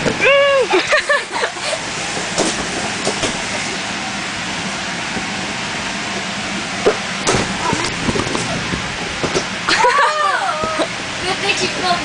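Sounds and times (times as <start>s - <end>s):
electric blower fan running: 0.0s - 12.0s.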